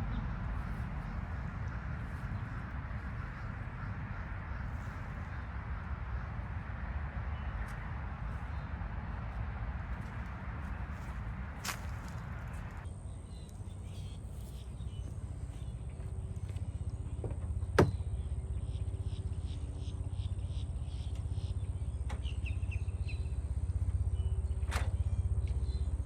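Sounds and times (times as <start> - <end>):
diesel engine rumbling: 0.0 - 13.2, 13.8 - 26.0.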